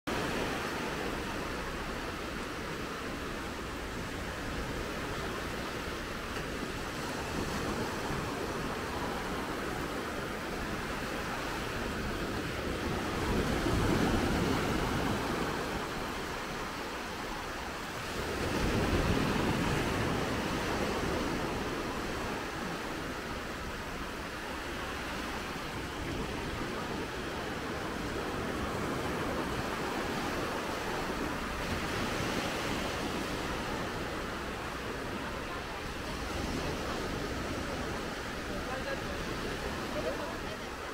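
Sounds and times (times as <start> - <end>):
small waves washing on sand: 0.1 - 40.9.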